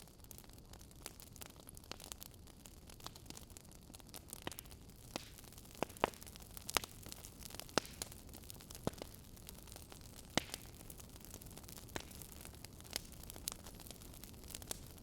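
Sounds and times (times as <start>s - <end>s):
fire soft hiss: 0.0s - 15.0s
wood fire popping: 0.0s - 15.0s.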